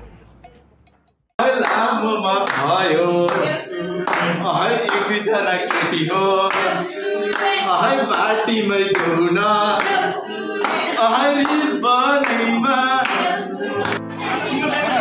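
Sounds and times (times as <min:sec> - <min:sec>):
hands clapping in steady beat: 0:01.4 - 0:15.0
young men singing together: 0:01.4 - 0:15.0.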